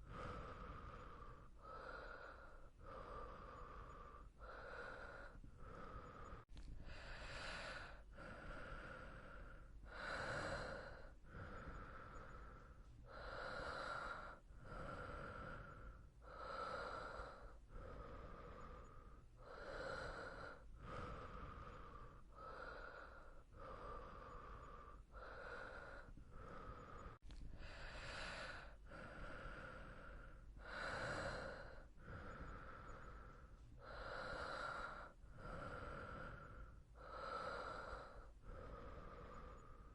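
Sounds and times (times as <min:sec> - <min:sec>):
person breathing in and out: 0:00.0 - 0:39.9.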